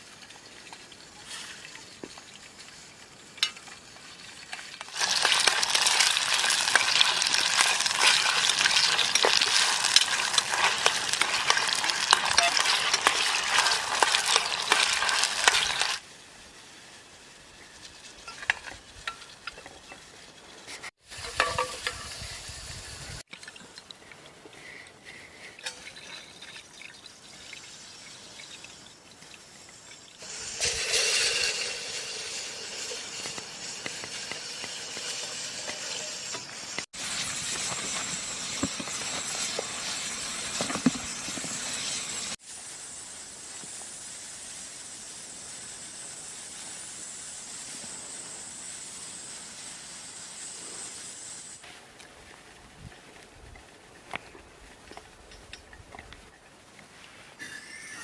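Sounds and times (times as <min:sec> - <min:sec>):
crackling hiss: 0:00.0 - 0:58.0.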